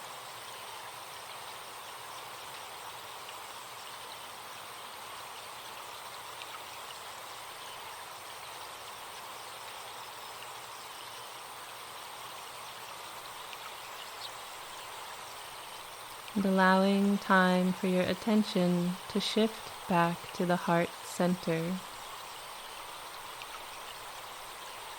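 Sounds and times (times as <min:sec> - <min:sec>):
insects buzzing: 0:00.0 - 0:24.9
stream flowing: 0:00.0 - 0:24.9.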